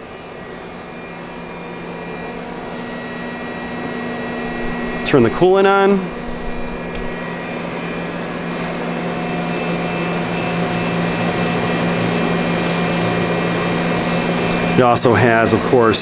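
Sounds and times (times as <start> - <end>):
pump hum: 0.0 - 16.0
coolant rushing: 1.9 - 16.0.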